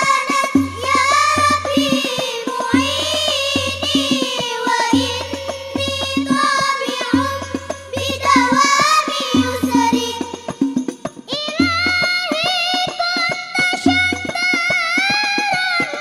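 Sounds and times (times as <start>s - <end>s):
children singing: 0.0s - 16.0s
hand-struck frame drums: 0.0s - 16.0s.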